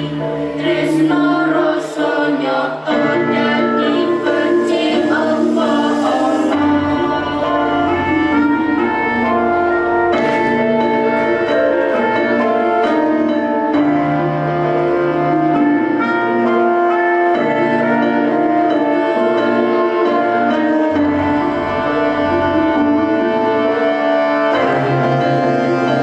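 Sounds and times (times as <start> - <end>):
instrumental music with held notes: 0.0 - 26.0.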